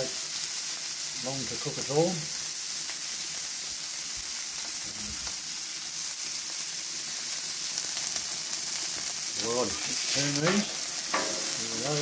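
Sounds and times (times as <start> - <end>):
burger patties sizzling on griddle: 0.0 - 12.0.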